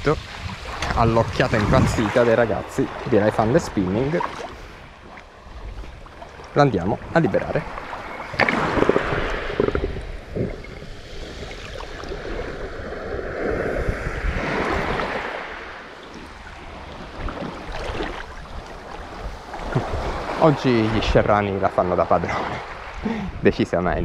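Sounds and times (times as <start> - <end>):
wind rumbling on microphone: 0.0 - 21.5, 22.3 - 24.0
small waves washing on shore: 0.0 - 23.4.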